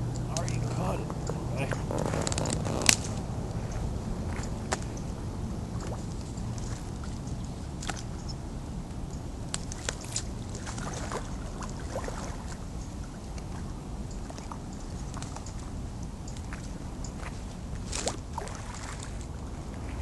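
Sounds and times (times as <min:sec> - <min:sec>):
light clicks and rustles: 0:00.0 - 0:05.1, 0:05.8 - 0:11.8, 0:12.8 - 0:18.2
steady low rumble: 0:00.0 - 0:20.0
water sloshing and splashing: 0:00.0 - 0:20.0.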